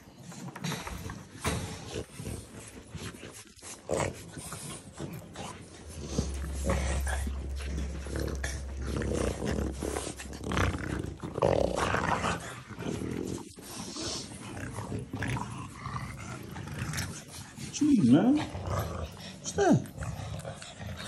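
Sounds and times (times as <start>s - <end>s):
dogs growling: 0.0s - 21.0s.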